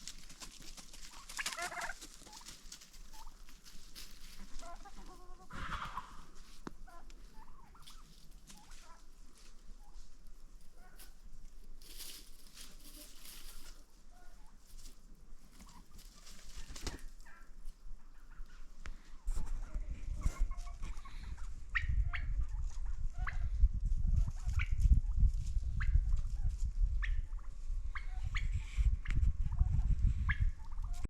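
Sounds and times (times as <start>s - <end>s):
chickens clucking: 0.0s - 23.6s, 24.2s - 31.0s.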